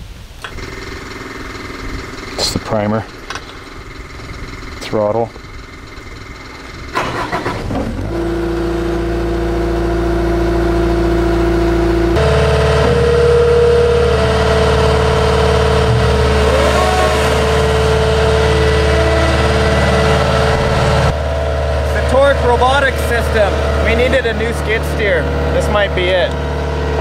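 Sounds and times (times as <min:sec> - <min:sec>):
diesel engine idling: 0:00.4 - 0:27.0.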